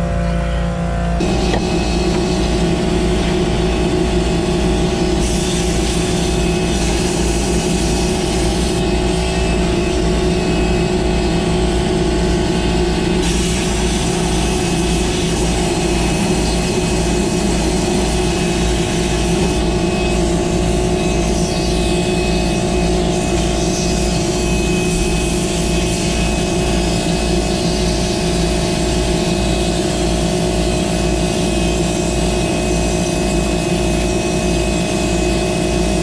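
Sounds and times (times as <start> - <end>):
diesel engine drone: 0.0 - 36.0.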